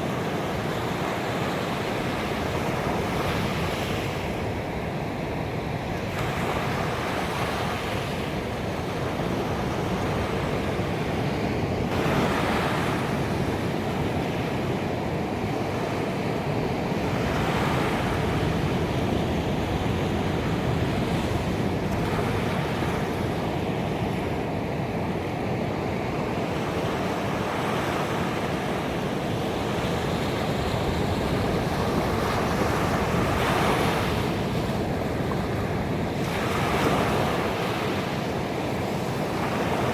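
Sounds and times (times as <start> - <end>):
waves washing on beach: 0.0 - 39.9.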